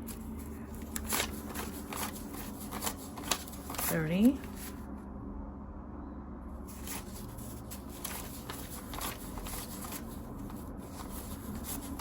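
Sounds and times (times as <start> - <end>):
banknotes rustling and crinkling: 0.0 - 4.9, 6.7 - 12.0
low steady hum: 0.0 - 12.0.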